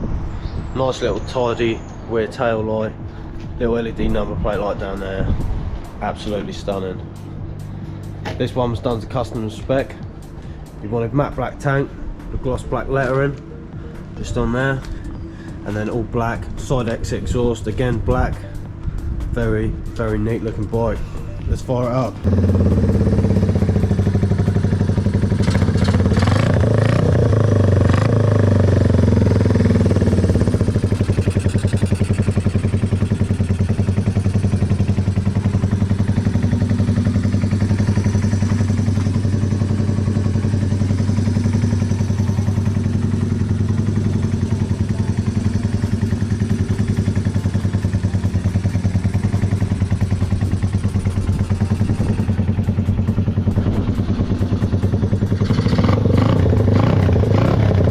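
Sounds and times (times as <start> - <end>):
motorcycle engine revving and idling: 1.2 - 57.9.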